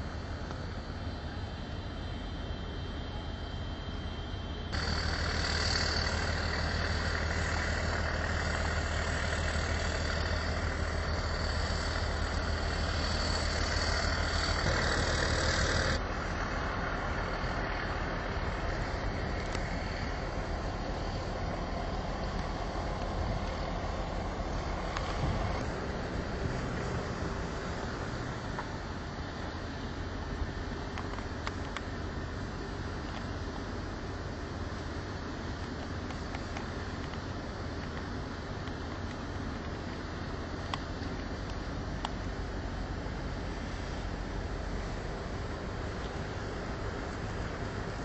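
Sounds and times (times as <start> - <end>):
engine drone: 0.0 - 48.0
high whine: 0.0 - 48.0
steady rushing noise: 0.0 - 48.0.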